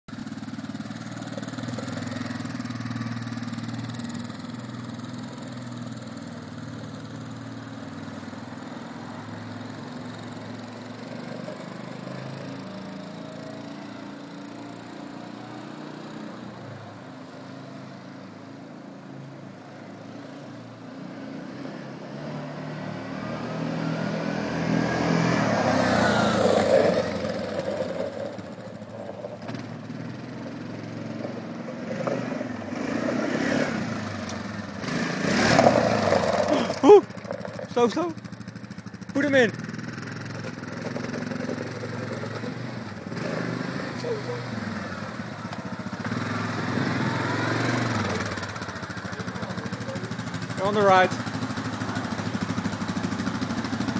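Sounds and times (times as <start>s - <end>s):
quad bike engine running: 0.1s - 18.2s, 21.0s - 53.9s.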